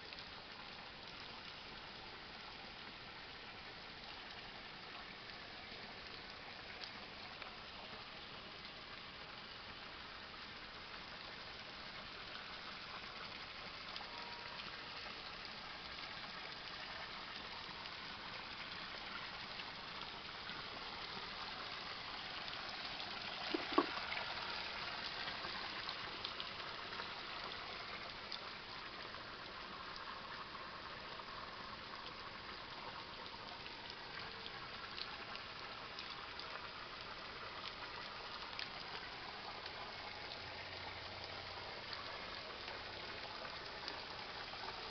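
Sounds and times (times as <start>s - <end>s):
stream running over rocks: 0.0s - 44.9s.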